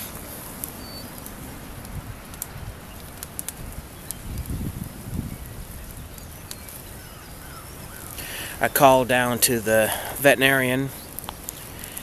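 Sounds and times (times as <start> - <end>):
burning logs crackling: 0.0 - 12.0
fire flames rumbling: 0.0 - 12.0.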